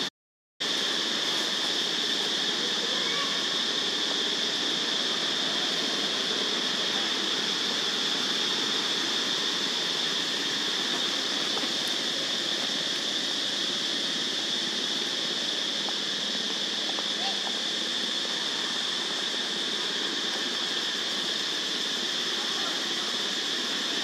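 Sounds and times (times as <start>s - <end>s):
cicadas droning: 0.0s - 24.0s
continuous hiss: 0.0s - 24.0s.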